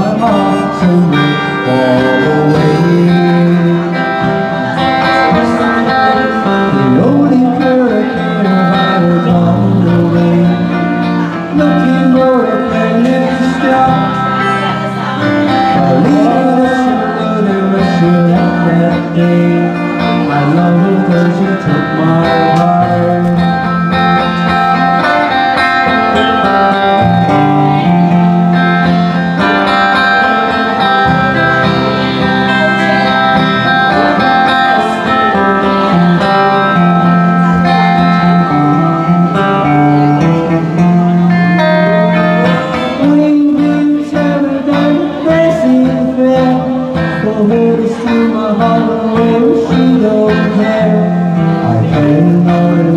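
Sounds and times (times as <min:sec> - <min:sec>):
live band playing pop tune: 0:00.0 - 0:52.9.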